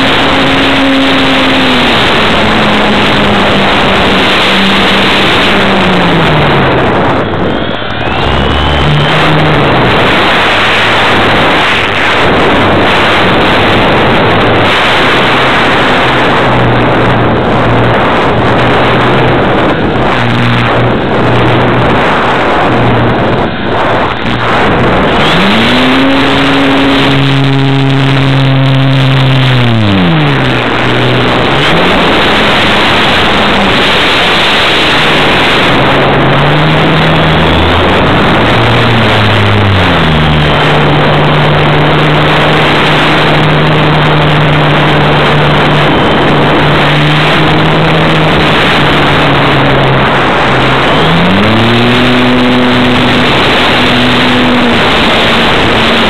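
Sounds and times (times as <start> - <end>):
model airplane motor humming: 0.0 - 56.0
wind rushing over microphone: 0.0 - 56.0.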